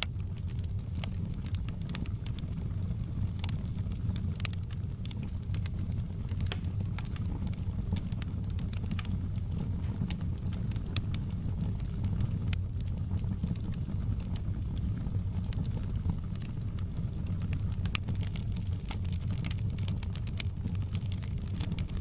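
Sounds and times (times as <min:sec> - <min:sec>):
low rumble of burning fire: 0:00.0 - 0:22.0
wood fire crackling and popping: 0:00.0 - 0:22.0.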